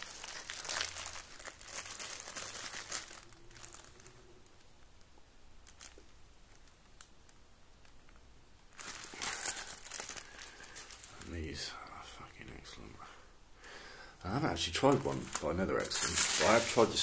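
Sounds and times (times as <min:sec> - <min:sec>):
plastic shrink-wrap crinkling: 0:00.0 - 0:11.8, 0:14.2 - 0:17.0.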